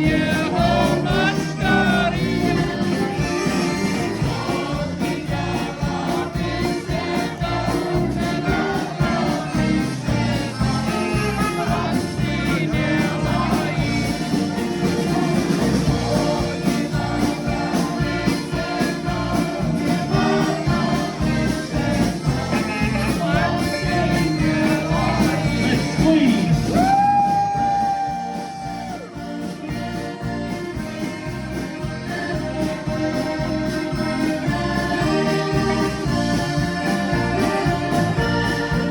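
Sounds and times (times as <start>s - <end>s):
song with singing and beat: 0.0s - 38.9s.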